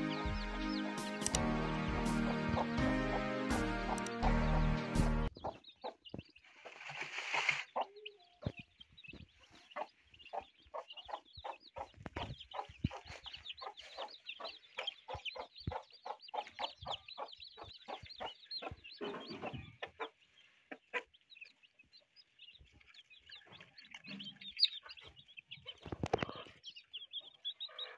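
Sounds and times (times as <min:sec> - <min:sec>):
chicks peeping: 0:00.0 - 0:27.9
hen clucking: 0:00.0 - 0:27.9.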